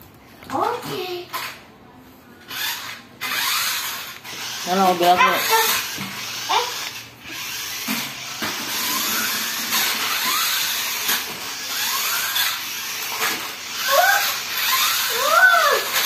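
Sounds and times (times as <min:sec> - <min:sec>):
toy truck motors whirring: 0:02.4 - 0:16.0.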